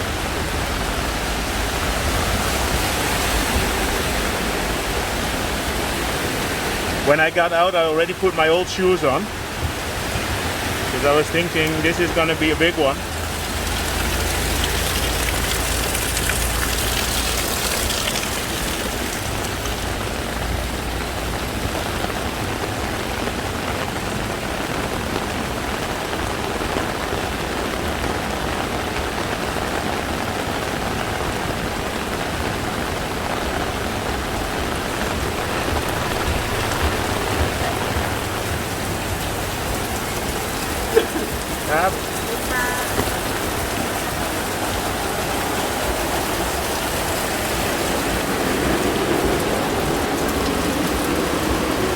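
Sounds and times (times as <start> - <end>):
heavy rain hissing on street: 0.0 - 51.9.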